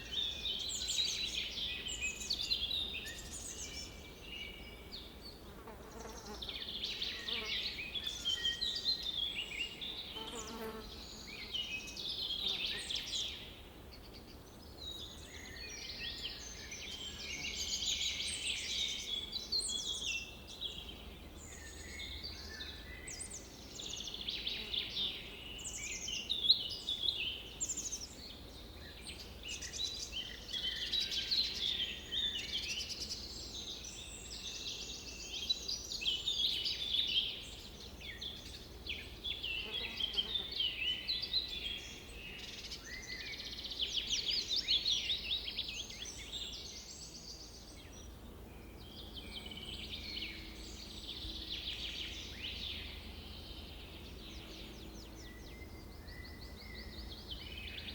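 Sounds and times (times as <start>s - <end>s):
birds singing in chorus: 0.0s - 57.9s.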